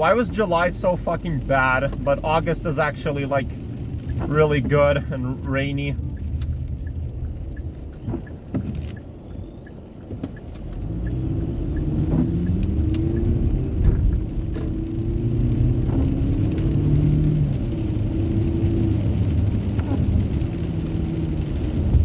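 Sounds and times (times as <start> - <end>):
car engine accelerating: 0.0 - 22.0
road noise inside car: 0.0 - 22.0.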